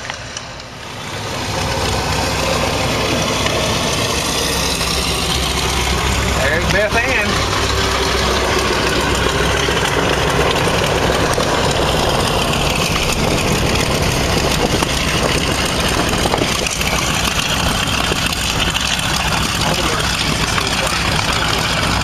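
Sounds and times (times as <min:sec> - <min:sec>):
piston aircraft engines running: 0:00.0 - 0:22.0.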